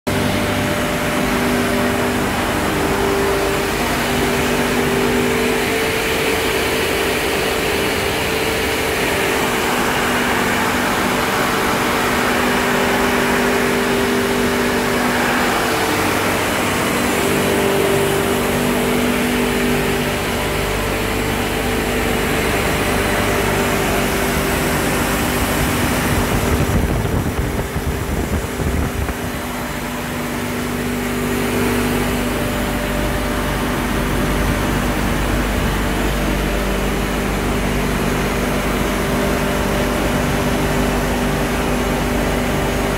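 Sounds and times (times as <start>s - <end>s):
refrigeration compressors droning: 0.1s - 42.9s.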